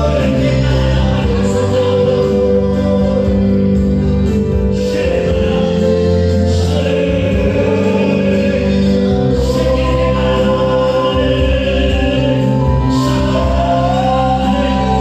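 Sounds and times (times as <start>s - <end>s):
group singing: 0.0s - 15.0s
sustained keyboard chords: 0.0s - 15.0s.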